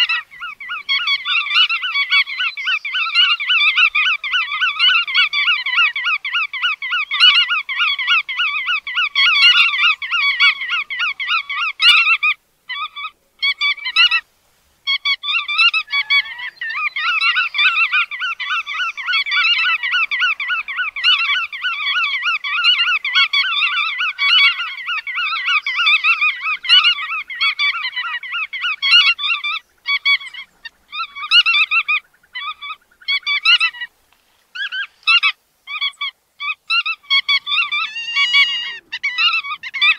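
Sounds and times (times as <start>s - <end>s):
birds nasal calls: 0.0s - 39.9s.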